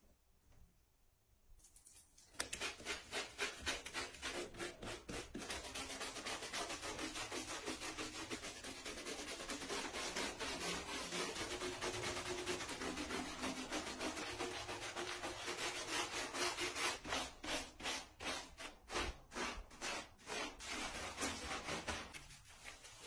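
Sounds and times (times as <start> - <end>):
brush scrubbing wet dog fur: 2.3 - 23.0.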